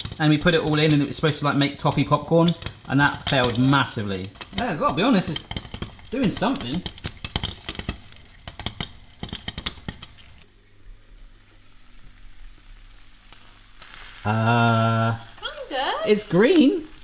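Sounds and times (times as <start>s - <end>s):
popcorn popping: 0.0s - 10.5s, 12.5s - 17.0s
oil sizzling: 0.0s - 17.0s.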